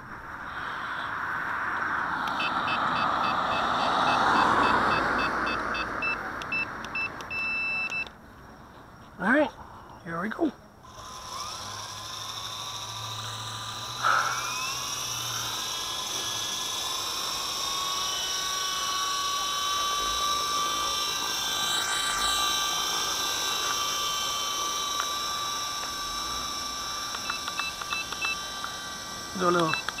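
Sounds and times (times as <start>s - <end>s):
rc helicopter motor whine: 0.1s - 8.1s, 10.8s - 30.0s.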